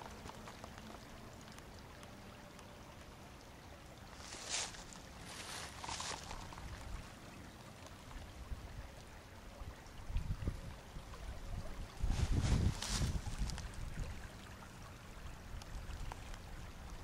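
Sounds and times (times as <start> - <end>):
creek flowing over stones: 0.0 - 17.0.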